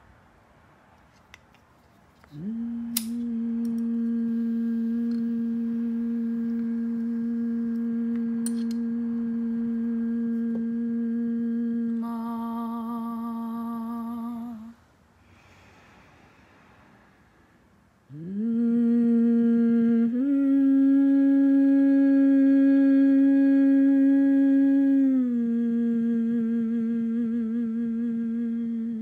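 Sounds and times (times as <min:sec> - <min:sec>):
woman humming held notes: 0:02.3 - 0:14.8, 0:18.1 - 0:29.0.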